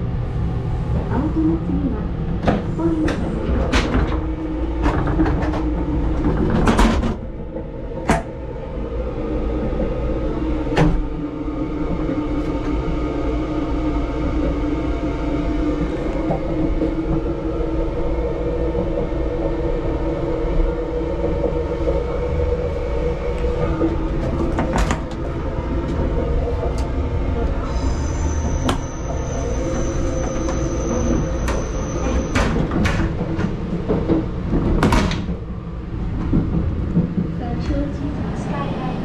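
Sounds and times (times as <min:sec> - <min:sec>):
train rumble and hum: 0:00.0 - 0:39.0.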